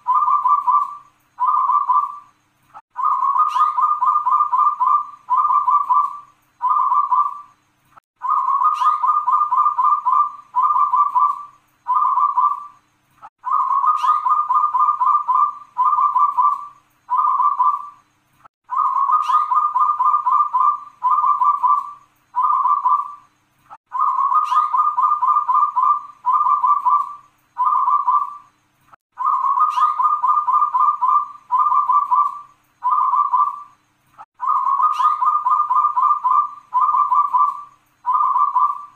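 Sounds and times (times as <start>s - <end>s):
dove cooing song: 0.0s - 7.6s, 8.2s - 12.8s, 13.4s - 18.0s, 18.7s - 23.3s, 23.9s - 28.5s, 29.2s - 33.8s, 34.4s - 38.9s.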